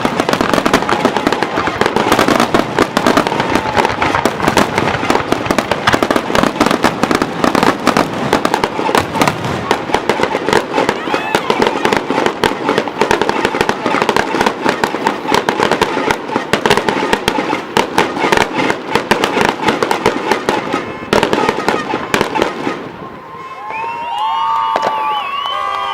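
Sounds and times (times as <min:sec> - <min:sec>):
crowd cheering: 0:00.0 - 0:25.9
fireworks bangs and crackles: 0:00.0 - 0:25.9.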